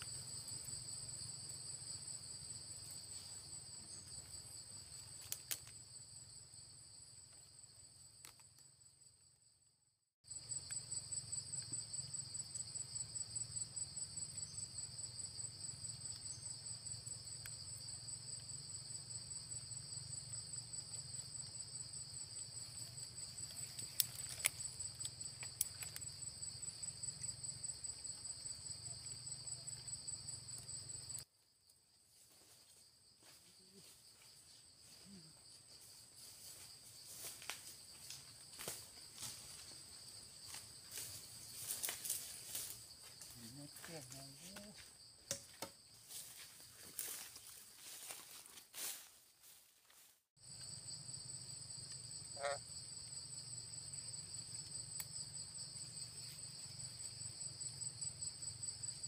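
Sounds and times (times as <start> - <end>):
insects trilling: 0.0 - 9.3, 10.2 - 49.6, 50.4 - 59.0.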